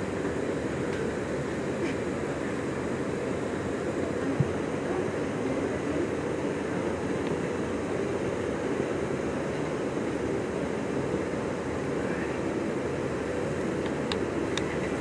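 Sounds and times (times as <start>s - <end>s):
indoor ambient din: 0.0s - 15.0s.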